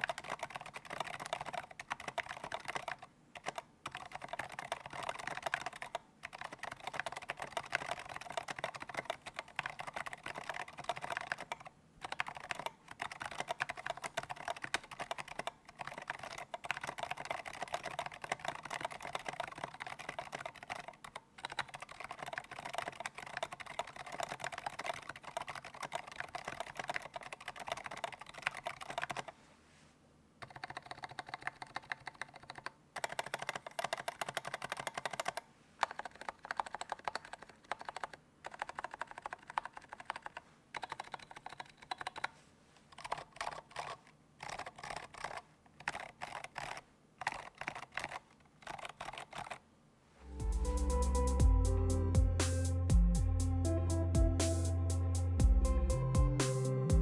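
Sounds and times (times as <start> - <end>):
fast typing on mechanical keyboard: 0.0 - 29.4, 30.4 - 49.6.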